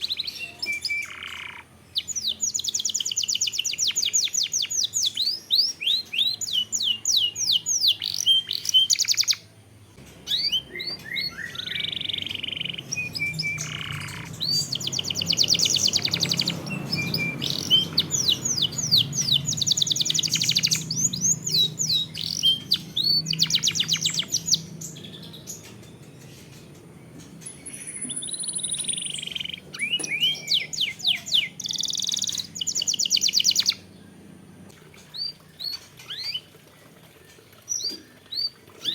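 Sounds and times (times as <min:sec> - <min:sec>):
canary singing trills: 0:00.0 - 0:36.5, 0:37.6 - 0:38.9.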